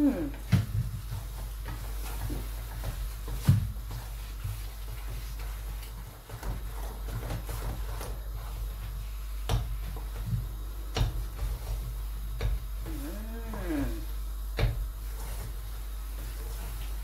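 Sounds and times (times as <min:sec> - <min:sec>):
wooden spoon stirring thick mash: 0:00.0 - 0:17.0.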